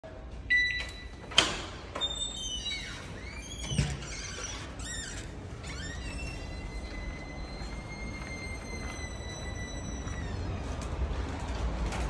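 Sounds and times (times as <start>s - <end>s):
door creaking: 1.2s - 10.9s.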